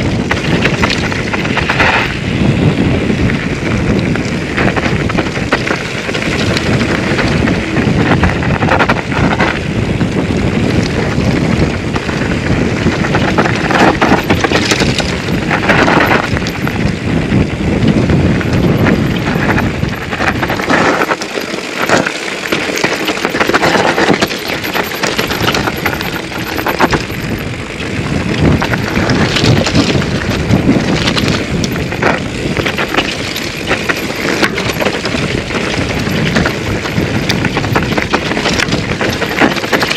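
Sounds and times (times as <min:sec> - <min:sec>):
bike chain and frame rattling: 0:00.0 - 0:39.9.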